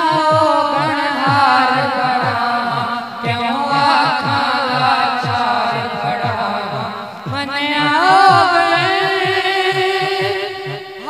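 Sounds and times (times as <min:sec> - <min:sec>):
low pulsing beat: 0:00.0 - 0:11.0
man singing into a microphone: 0:00.0 - 0:11.0.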